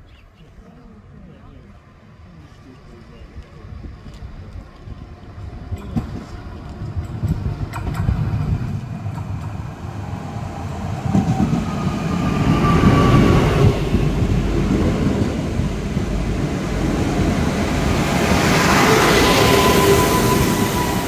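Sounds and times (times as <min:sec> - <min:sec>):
train rumbling and braking: 0:01.8 - 0:21.0.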